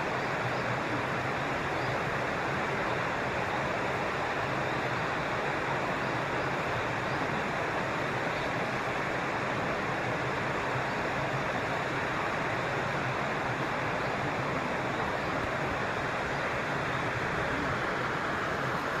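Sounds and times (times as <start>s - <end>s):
stream water running: 0.0s - 19.0s.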